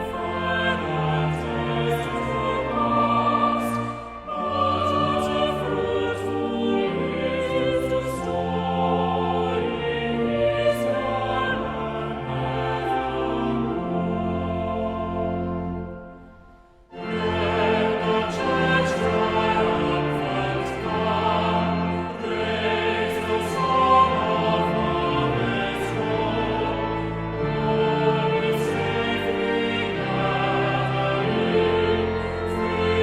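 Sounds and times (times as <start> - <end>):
choral music: 0.0 - 33.0.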